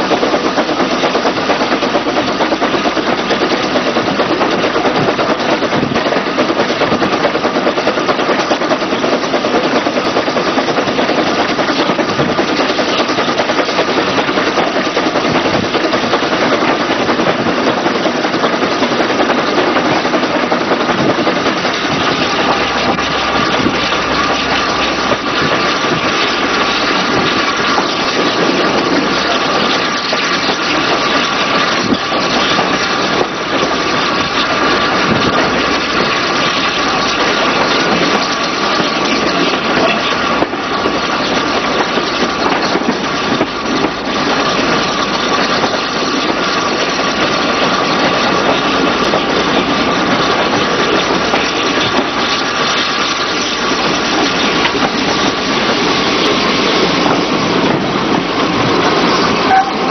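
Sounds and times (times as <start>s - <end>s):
steam locomotive running: 0.0s - 59.9s.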